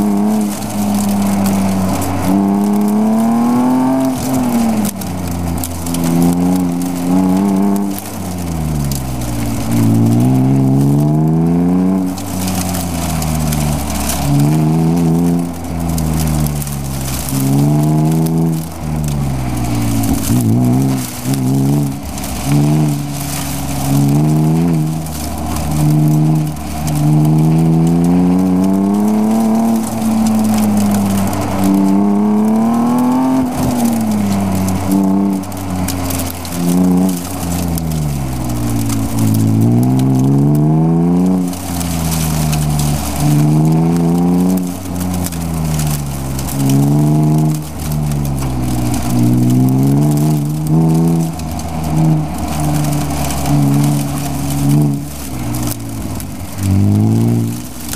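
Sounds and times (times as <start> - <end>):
car engine accelerating: 0.0 - 57.9.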